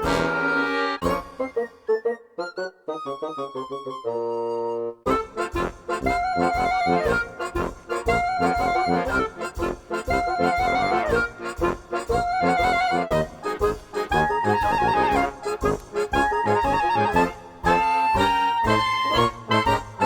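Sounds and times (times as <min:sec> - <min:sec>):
upbeat accordion instrumental music: 0:00.0 - 0:20.0.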